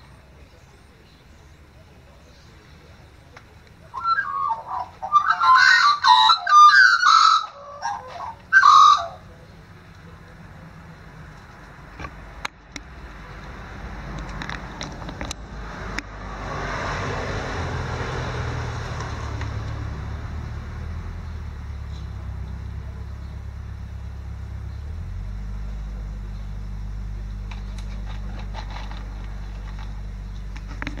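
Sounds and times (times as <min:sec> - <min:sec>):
vehicle engine humming: 0:00.0 - 0:31.0.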